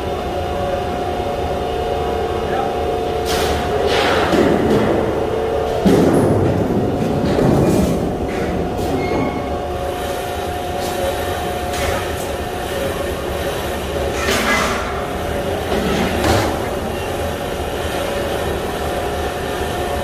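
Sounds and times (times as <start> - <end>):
heavy machinery drone: 0.0 - 20.0.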